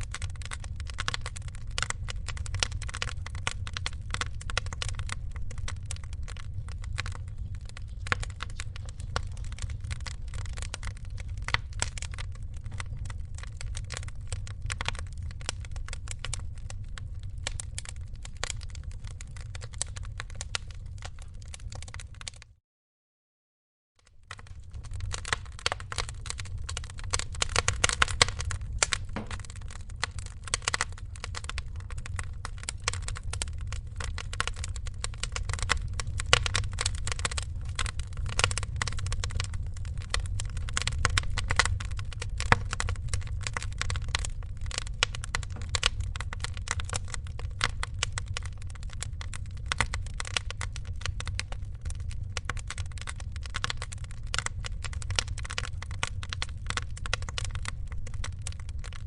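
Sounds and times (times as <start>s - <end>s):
wood fire crackling and popping: 0.0s - 22.5s, 24.0s - 59.0s.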